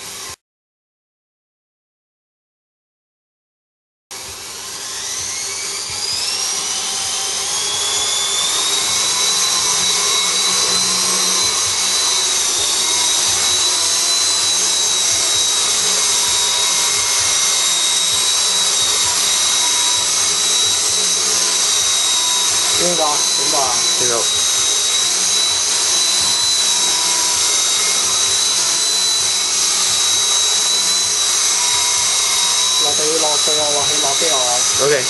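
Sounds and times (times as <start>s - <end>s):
rc helicopter motor whining: 0.0s - 0.4s, 4.2s - 35.0s.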